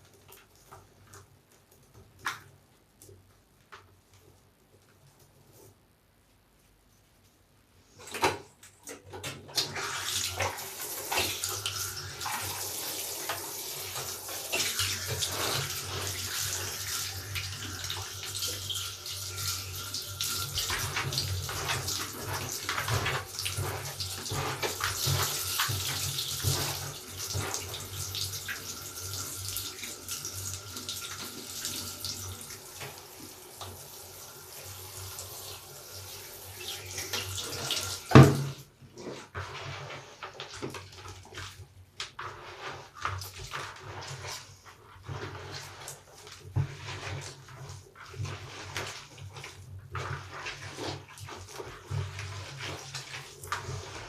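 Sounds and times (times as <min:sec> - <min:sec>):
wet sponge squishing: 0:09.5 - 0:35.4, 0:36.0 - 0:54.0
soapy foam crackling: 0:09.8 - 0:54.0.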